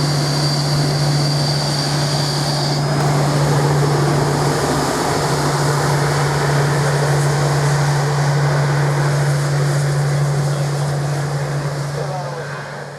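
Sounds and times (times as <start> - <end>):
jet engines roaring: 0.0 - 12.9
low hum: 0.0 - 12.9.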